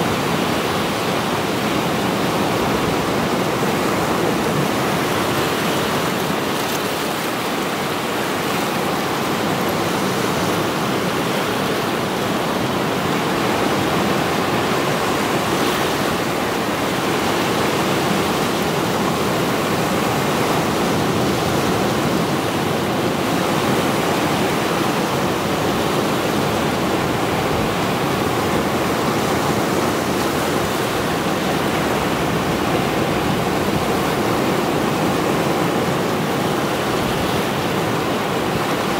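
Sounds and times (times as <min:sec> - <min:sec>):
waves breaking over rocks: 0:00.0 - 0:38.9.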